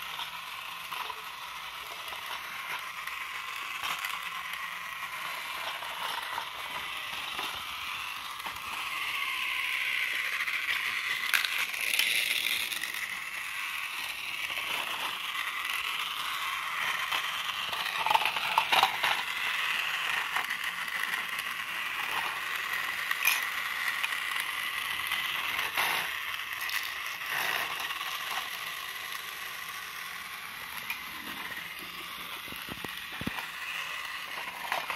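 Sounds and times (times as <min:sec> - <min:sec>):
toy train motor whine: 0:00.0 - 0:34.9.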